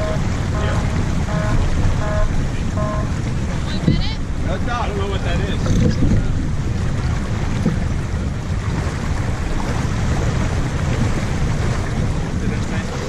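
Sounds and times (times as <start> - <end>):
water washing: 0.0 - 13.0
wind buffeting microphone: 0.0 - 13.0.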